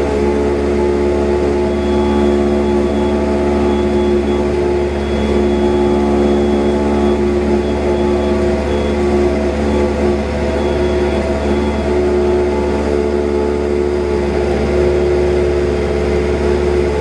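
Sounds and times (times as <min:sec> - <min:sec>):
aircraft engine droning: 0:00.0 - 0:17.0.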